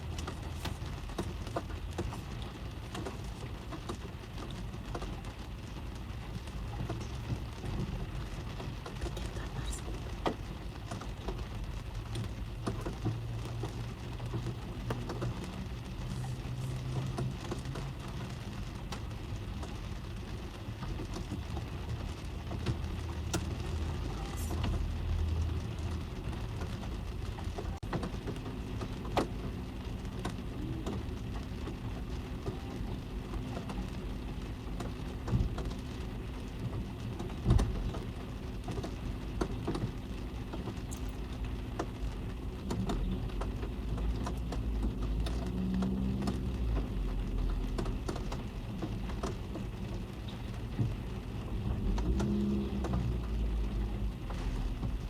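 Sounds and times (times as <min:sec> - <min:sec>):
rain on car roof: 0:00.0 - 0:55.0.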